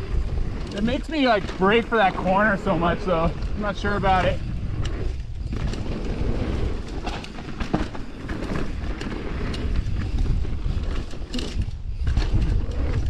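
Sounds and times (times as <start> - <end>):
bike rattling and knocking: 0.0 - 13.0
tyres rolling on dirt: 0.0 - 13.0
wind rushing over microphone: 0.0 - 13.0.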